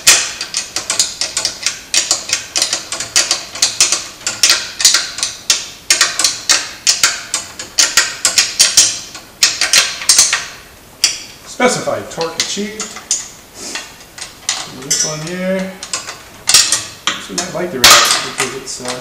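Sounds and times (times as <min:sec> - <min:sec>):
wrench clicking on a nut: 0:00.0 - 0:11.2, 0:12.2 - 0:19.0.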